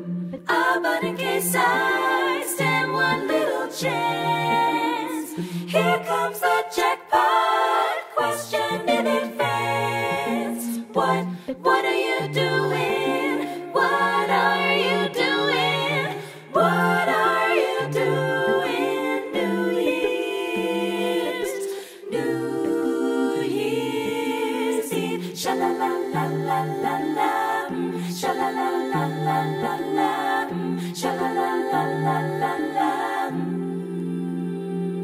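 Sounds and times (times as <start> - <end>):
vocal group singing in harmony: 0.0 - 35.0.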